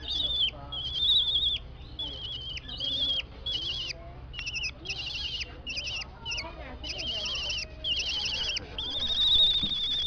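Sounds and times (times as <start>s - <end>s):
owl quavering chirps: 0.0s - 10.0s.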